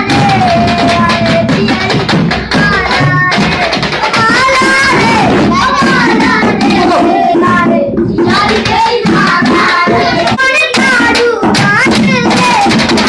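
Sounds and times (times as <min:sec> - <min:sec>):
hands clapping: 0:00.0 - 0:13.0
person singing over music: 0:00.0 - 0:13.0.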